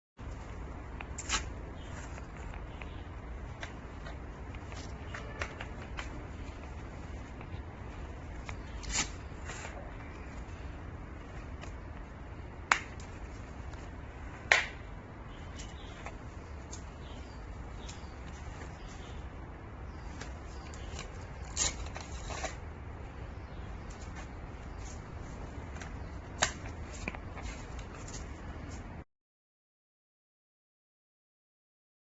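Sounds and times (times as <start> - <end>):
steady low hum: 0.2 - 29.0.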